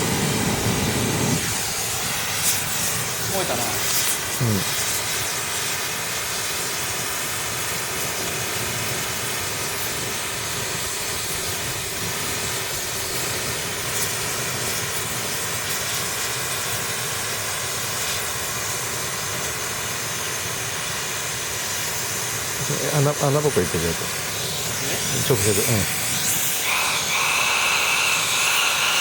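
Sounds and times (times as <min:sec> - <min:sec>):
hissing roar of burning silencer: 0:00.0 - 0:29.0.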